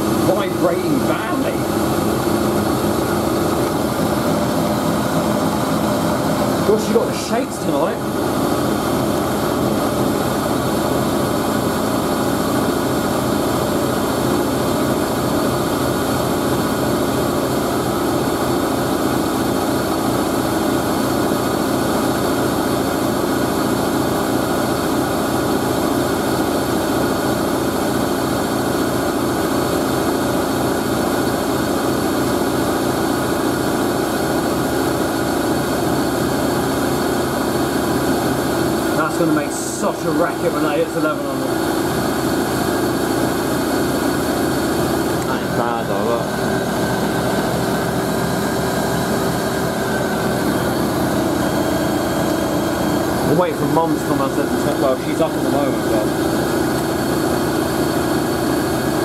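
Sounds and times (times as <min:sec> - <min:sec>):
washing machine shaking and vibrating: 0:00.0 - 0:59.0
washing machine spinning: 0:00.0 - 0:59.0.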